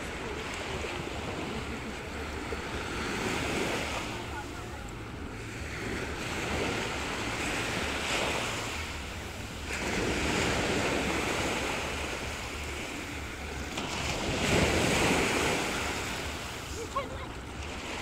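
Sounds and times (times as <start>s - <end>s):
sea waves washing up a beach: 0.0s - 18.0s.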